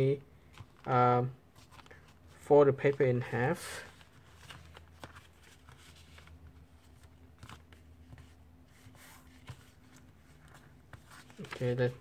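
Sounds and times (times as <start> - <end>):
paper being folded: 1.6 - 12.0.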